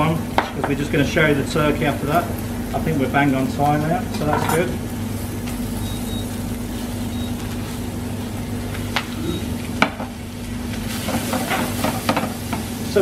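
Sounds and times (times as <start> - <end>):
food sizzling in frying pan: 0.0 - 13.0
steady low hum: 0.0 - 13.0.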